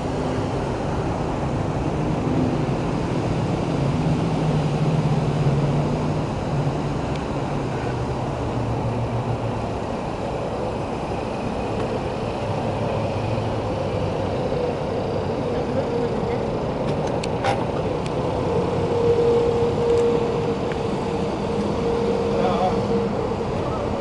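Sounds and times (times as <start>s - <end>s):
car engine humming: 0.0s - 24.0s
outdoor rush of air: 0.0s - 24.0s.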